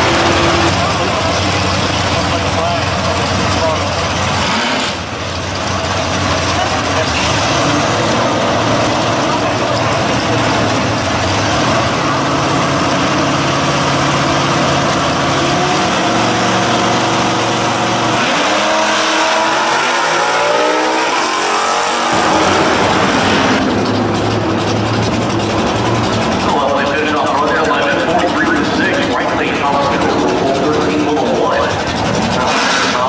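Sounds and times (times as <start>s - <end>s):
drag car engines: 0.0s - 33.0s.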